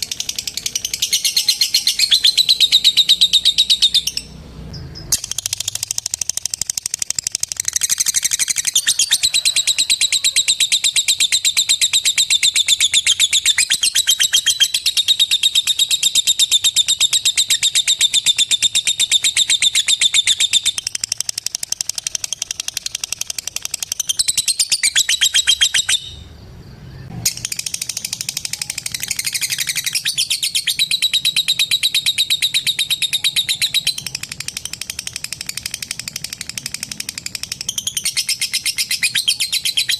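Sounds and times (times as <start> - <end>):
lovebird chattering call: 0.0 - 26.2, 27.2 - 39.9.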